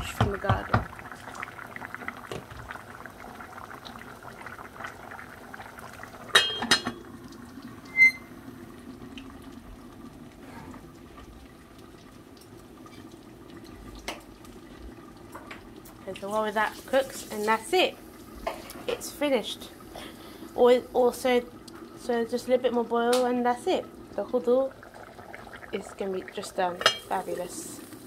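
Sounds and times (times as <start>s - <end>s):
pot of food boiling: 0.0s - 28.0s.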